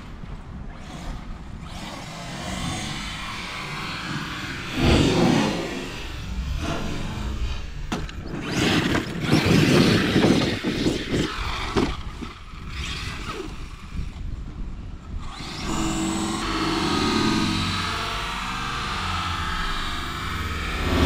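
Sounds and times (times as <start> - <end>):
electric motor whine: 0.0 - 14.3, 15.1 - 21.0
rc truck rough noise: 0.0 - 21.0.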